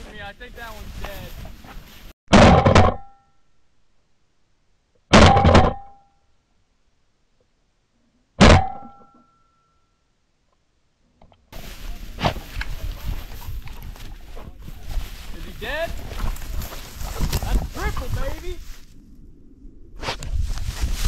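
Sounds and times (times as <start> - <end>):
outdoor field noise: 0.0 - 21.0.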